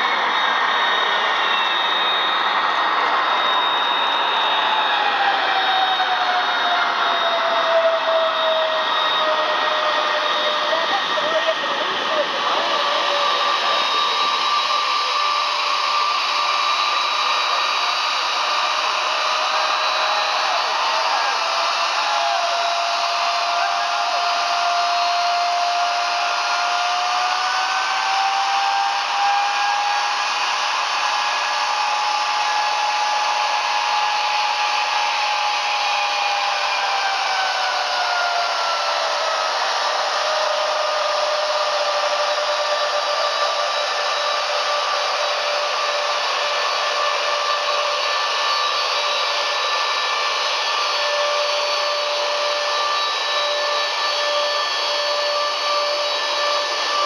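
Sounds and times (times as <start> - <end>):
jet engine whine: 0.0 - 57.0
jet engines running: 0.0 - 57.0.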